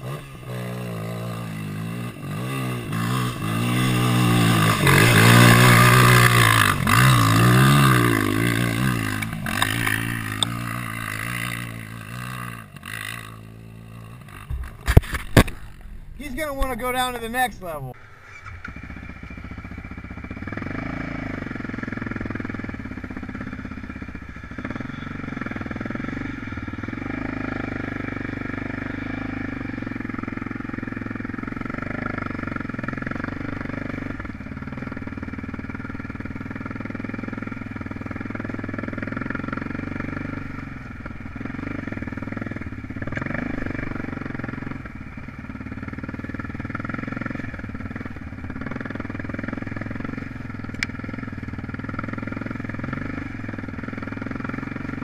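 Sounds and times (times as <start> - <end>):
off-road vehicle engine running: 0.0 - 55.0.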